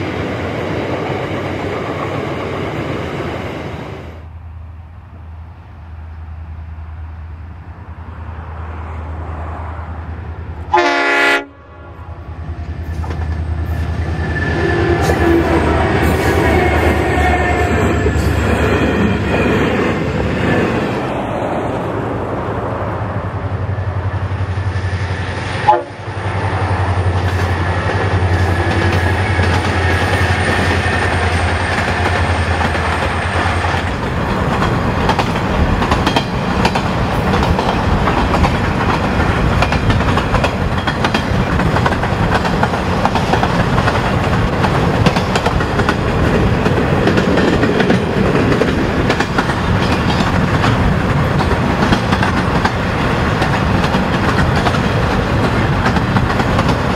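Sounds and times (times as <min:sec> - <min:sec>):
road and wind noise: 0:00.0 - 0:56.9
locomotive rumble: 0:04.2 - 0:56.9.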